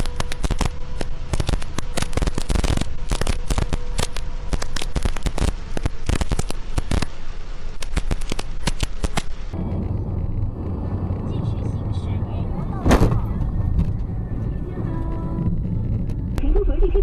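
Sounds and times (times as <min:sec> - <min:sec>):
heavy rain on vehicle roof: 0:00.0 - 0:16.3.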